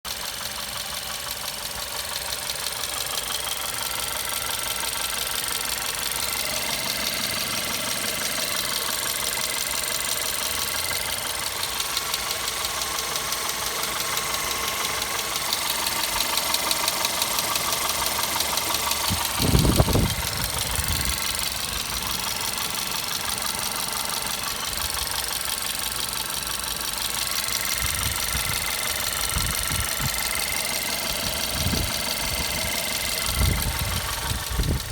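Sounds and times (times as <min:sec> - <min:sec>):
car engine idling: 0:00.0 - 0:34.9
rapid regular ticking: 0:00.1 - 0:34.9.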